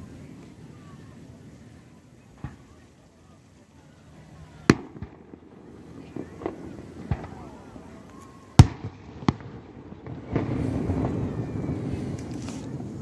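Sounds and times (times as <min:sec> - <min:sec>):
fireworks booming: 0:00.0 - 0:03.5, 0:04.1 - 0:13.0
fireworks rumble: 0:00.0 - 0:13.0.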